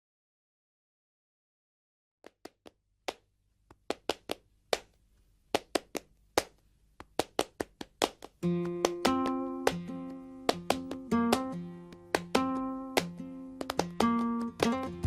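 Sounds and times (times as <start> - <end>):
sharp claps: 2.2 - 15.0.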